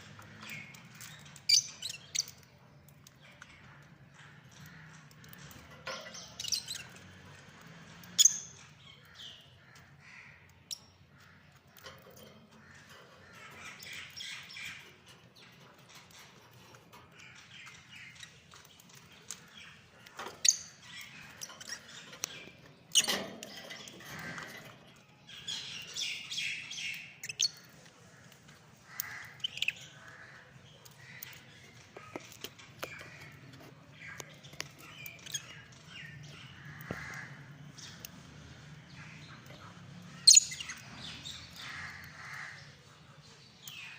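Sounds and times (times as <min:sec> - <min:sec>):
lovebirds chirping and squawking: 0:00.0 - 0:43.9.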